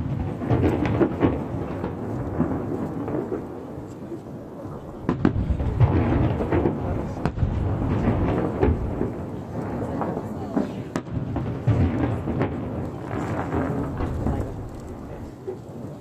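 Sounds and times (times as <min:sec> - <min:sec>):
fireworks bursting with sharp bangs: 0:00.0 - 0:16.0
rolling rumble: 0:00.0 - 0:16.0.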